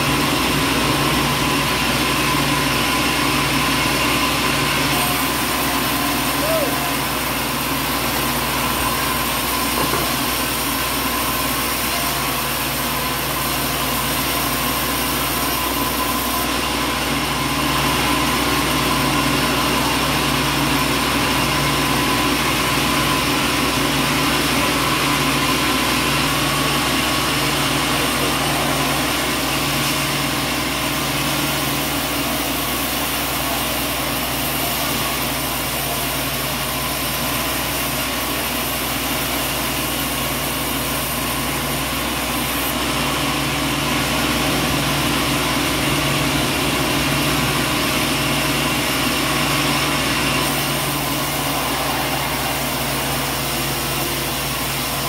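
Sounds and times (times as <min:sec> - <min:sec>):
band sawmill humming: 0:00.0 - 0:55.0.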